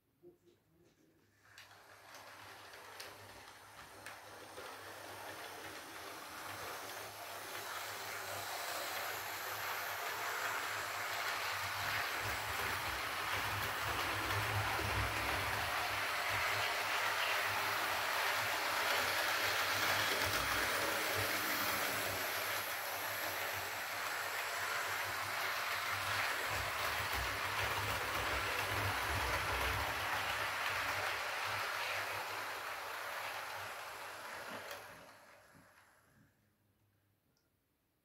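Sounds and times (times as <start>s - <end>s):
model train rumbling on rails: 1.6s - 35.9s.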